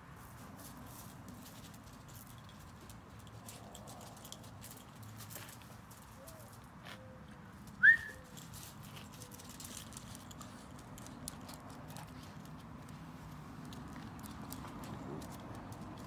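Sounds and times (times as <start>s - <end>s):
dog claws clicking on concrete: 1.3s - 7.0s, 7.6s - 16.0s.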